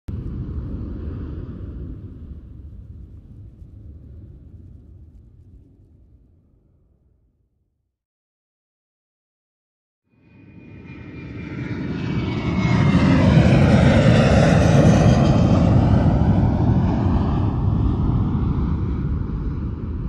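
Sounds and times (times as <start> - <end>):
jet airliner flying past: 0.1 - 7.1, 10.1 - 20.0.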